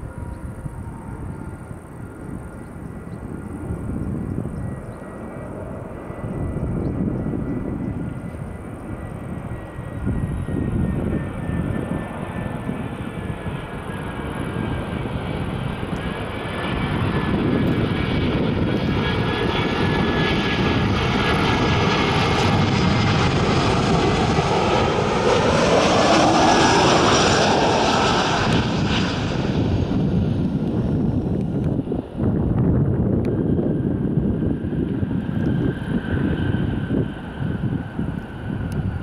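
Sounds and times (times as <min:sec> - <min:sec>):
jet airliner engines passing: 0:00.0 - 0:39.0.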